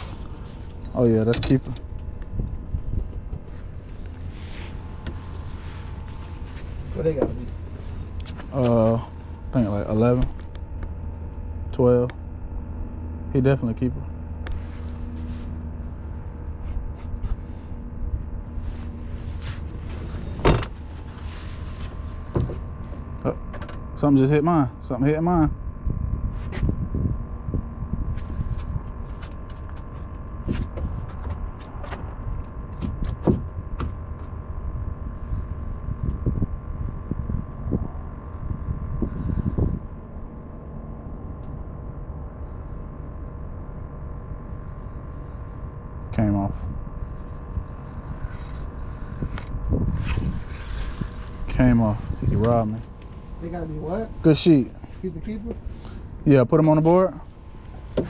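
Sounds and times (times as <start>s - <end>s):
motor droning: 0.0s - 58.0s
steady low hum: 0.0s - 58.0s.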